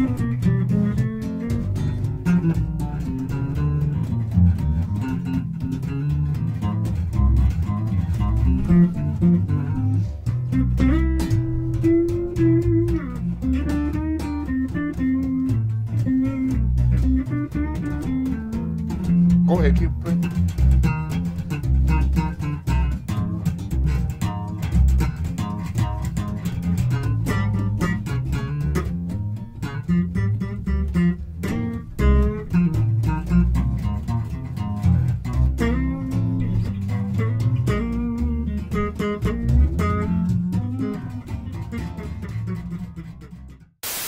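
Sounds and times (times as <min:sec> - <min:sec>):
electric bass guitars playing: 0:00.0 - 0:44.0.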